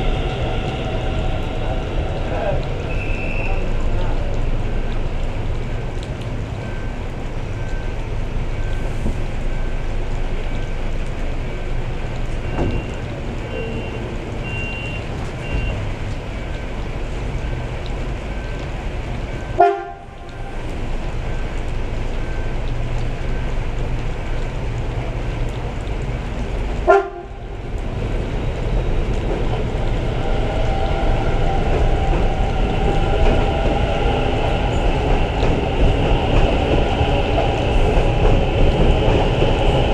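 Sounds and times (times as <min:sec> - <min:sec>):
rain: 0:00.0 - 0:39.9
rumble of rail traffic: 0:00.0 - 0:39.9
train coming in: 0:00.0 - 0:39.9.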